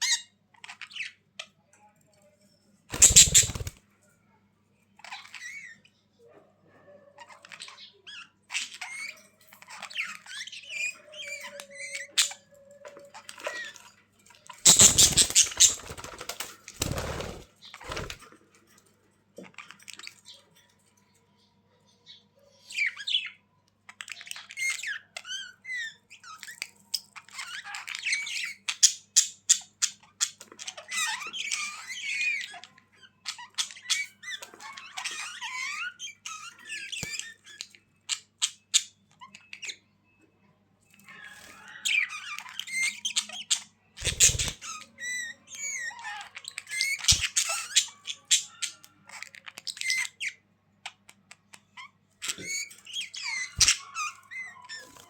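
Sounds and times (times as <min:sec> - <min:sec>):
budgerigars chirping and squawking: 0:00.0 - 0:01.7, 0:02.9 - 0:03.8, 0:05.0 - 0:18.7, 0:19.4 - 0:55.0.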